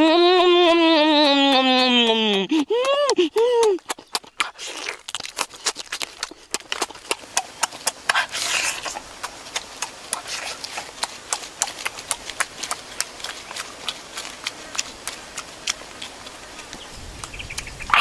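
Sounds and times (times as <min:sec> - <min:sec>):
open-mouthed chewing: 0:00.0 - 0:18.0.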